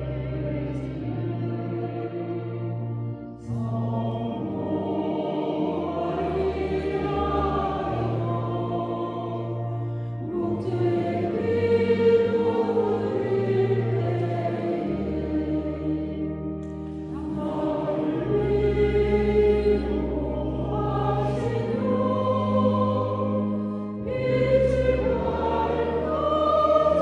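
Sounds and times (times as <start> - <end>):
congregation singing a hymn: 0.0 - 27.0.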